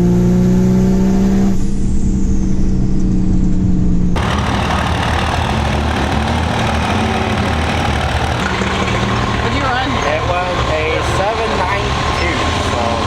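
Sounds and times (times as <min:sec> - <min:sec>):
vehicle engine at high revs: 0:00.0 - 0:01.8, 0:04.2 - 0:13.0.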